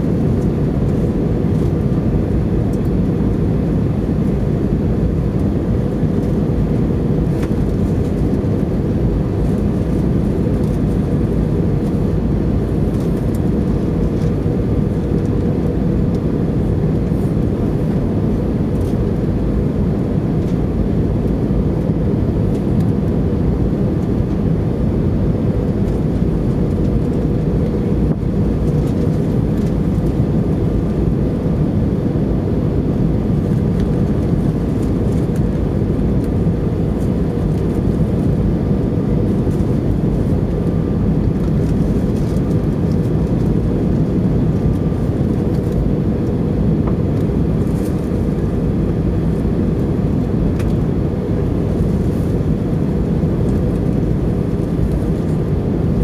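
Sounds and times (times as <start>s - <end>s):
aircraft engines rumbling: 0.0s - 56.0s.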